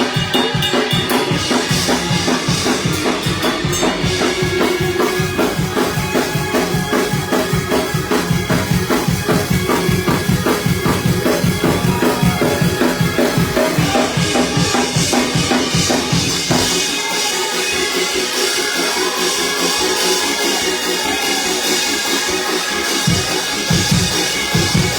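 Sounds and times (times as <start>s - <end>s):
drum kit beat: 0.0s - 24.9s
gospel band playing: 0.0s - 24.9s.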